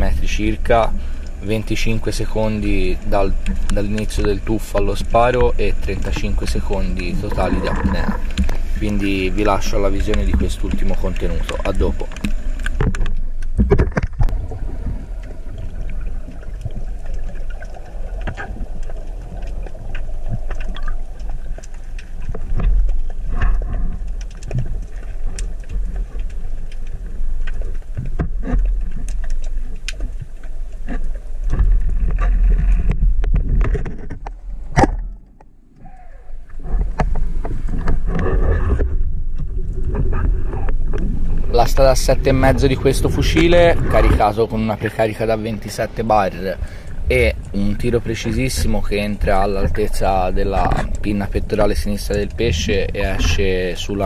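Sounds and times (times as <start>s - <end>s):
small underwater clicks: 0.0s - 44.6s, 46.6s - 54.0s
underwater rumble of moving water: 0.0s - 54.0s.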